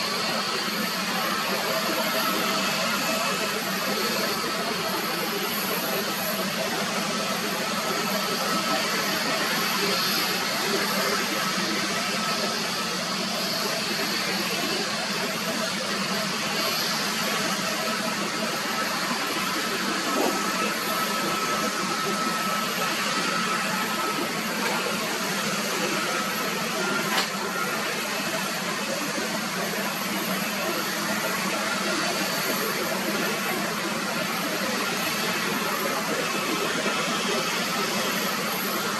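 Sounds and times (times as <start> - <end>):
distant jet engines running: 0.0 - 38.9.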